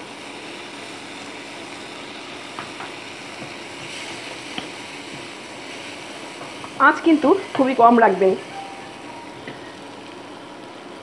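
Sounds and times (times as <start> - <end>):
onions sizzling in butter: 0.0 - 11.0.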